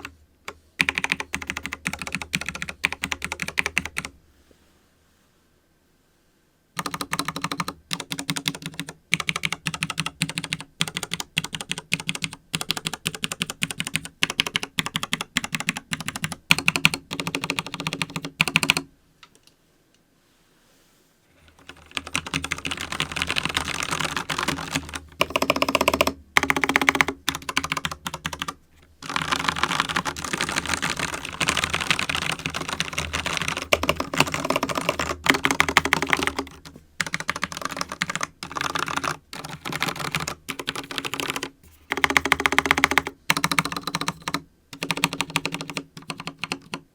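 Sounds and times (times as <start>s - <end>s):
mechanical keyboard typing clicks: 0.8s - 4.1s, 6.8s - 19.5s, 21.5s - 46.9s.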